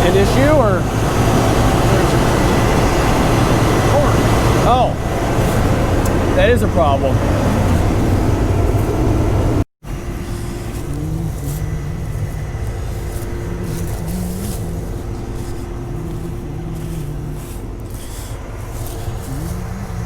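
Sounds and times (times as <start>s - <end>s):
farm vehicle engine running: 0.0s - 20.0s.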